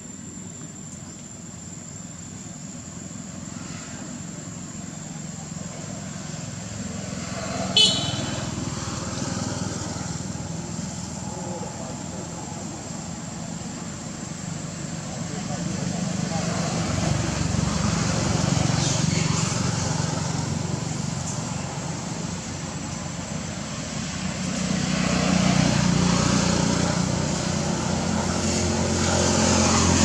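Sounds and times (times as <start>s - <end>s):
traffic running: 2.3s - 30.0s.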